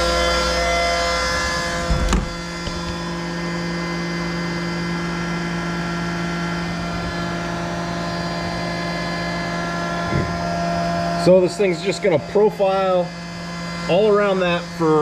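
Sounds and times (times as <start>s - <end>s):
milling machine whine: 0.0s - 15.0s.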